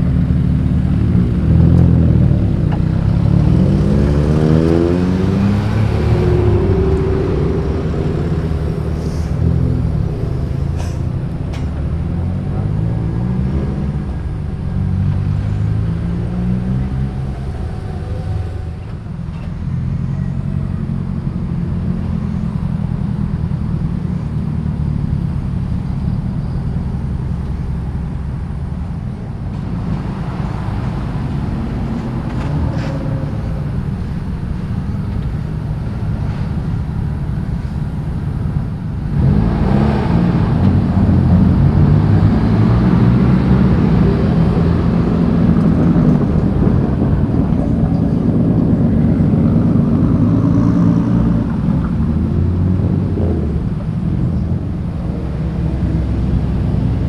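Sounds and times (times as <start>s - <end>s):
cars rolling past: 0.0s - 57.0s
loud car engine close by: 0.0s - 57.0s.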